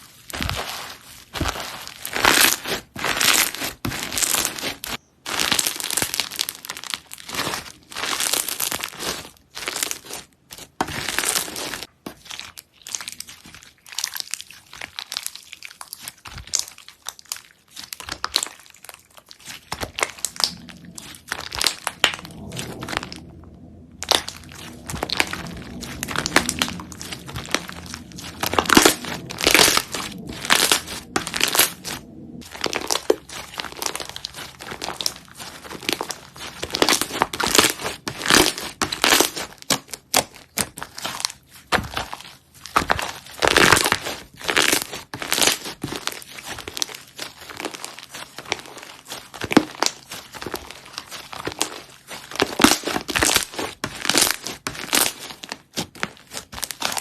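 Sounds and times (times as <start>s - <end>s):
slime crackling and crunching: 0.0s - 57.0s.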